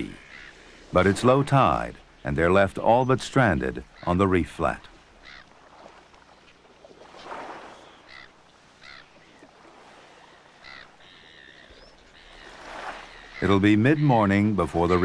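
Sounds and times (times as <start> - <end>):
birds chirping: 0.0 - 15.0
shallow water washing: 0.0 - 15.0.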